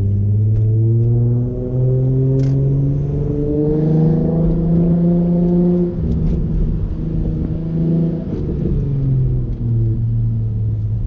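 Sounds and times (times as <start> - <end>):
car engine pulling under throttle: 0.0 - 11.0.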